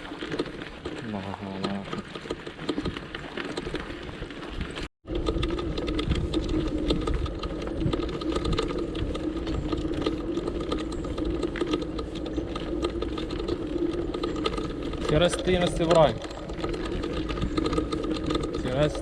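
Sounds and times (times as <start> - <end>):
vehicle riding on road: 0.0 - 19.0.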